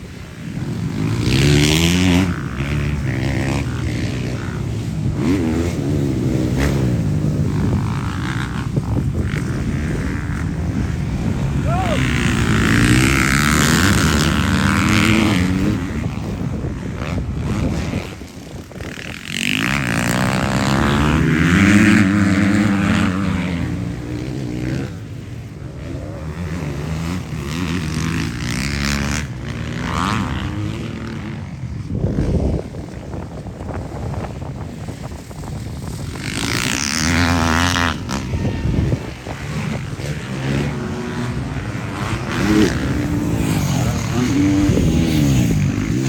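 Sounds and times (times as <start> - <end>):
motocross bikes racing past: 0.0 - 46.0.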